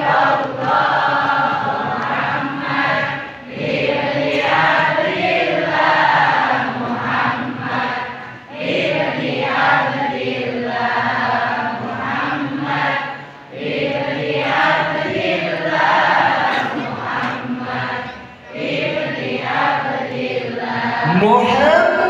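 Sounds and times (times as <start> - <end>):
voices chanting together: 0.0 - 22.0.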